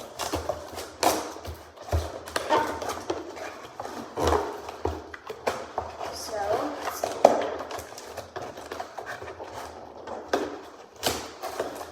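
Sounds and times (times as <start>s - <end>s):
cardboard scraping: 0.0s - 11.9s.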